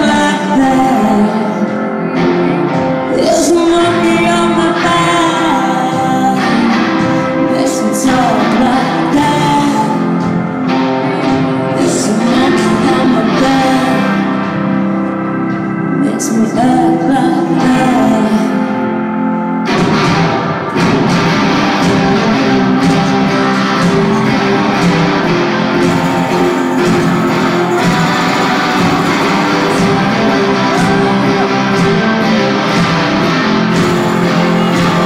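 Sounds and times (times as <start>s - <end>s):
loud electric guitar: 0.0s - 35.0s
rock band playing: 0.0s - 35.0s.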